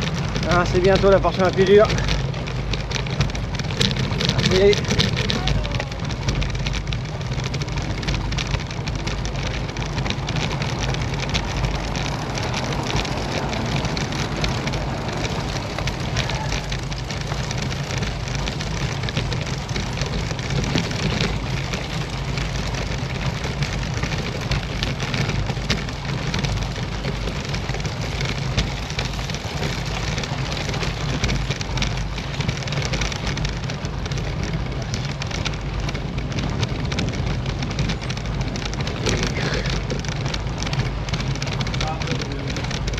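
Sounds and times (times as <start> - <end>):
bike rattling over cobblestones: 0.0 - 42.9
rushing wind: 0.0 - 42.9.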